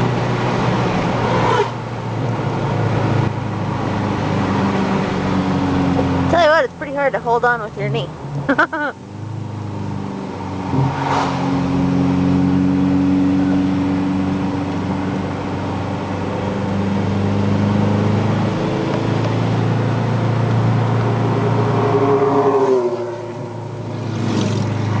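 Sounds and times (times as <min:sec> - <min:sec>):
road noise inside cabin: 0:00.0 - 0:25.0.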